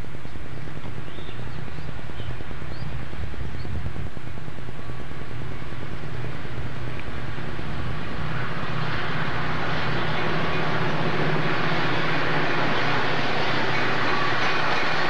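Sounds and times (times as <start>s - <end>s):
rail noise: 0.0s - 15.0s
train locomotive rumble: 0.0s - 15.0s.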